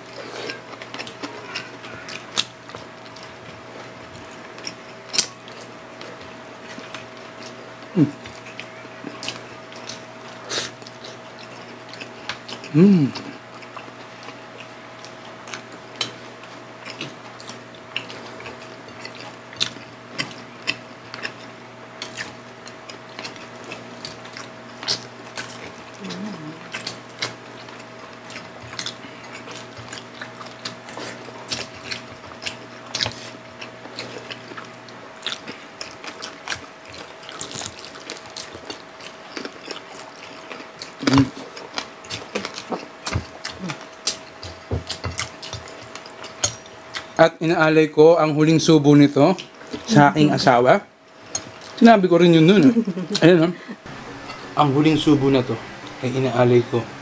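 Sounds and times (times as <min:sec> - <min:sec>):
faint steady hum: 0:00.0 - 0:57.0
chewing and finger-licking: 0:00.1 - 0:26.0, 0:26.7 - 0:47.2, 0:51.2 - 0:51.8.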